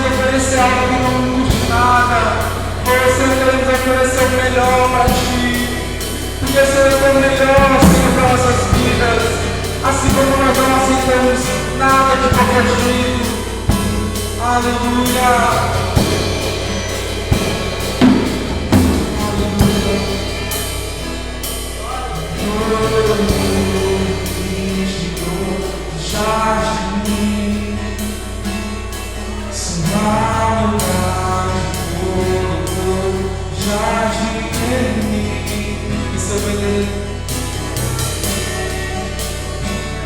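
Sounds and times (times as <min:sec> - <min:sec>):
man singing: 0:00.0 - 0:16.9, 0:18.7 - 0:21.1, 0:21.7 - 0:40.0
acoustic guitar: 0:00.0 - 0:40.0
drum kit with cymbals: 0:00.0 - 0:40.0.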